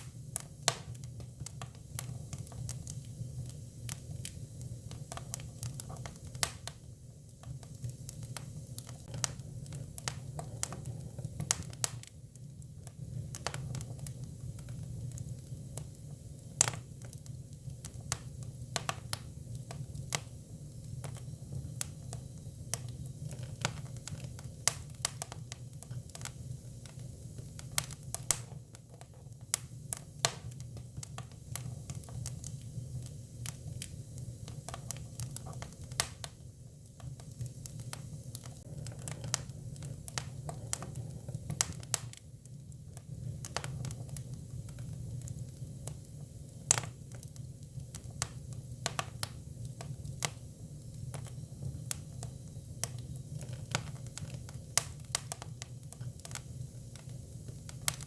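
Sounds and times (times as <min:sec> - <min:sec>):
firewood crackling and popping: 0:00.0 - 0:58.0
low rumble of fire: 0:00.0 - 0:58.0.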